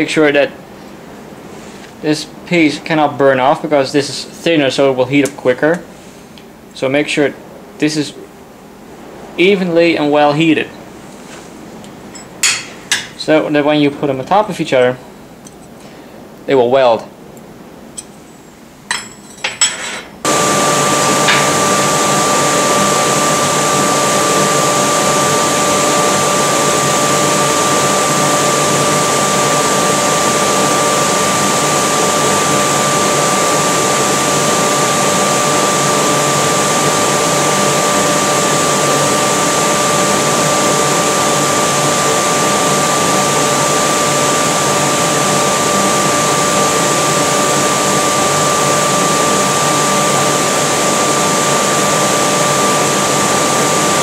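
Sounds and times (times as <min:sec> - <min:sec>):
forge blower air rush with whine: 0:00.0 - 0:19.0, 0:20.2 - 0:54.0.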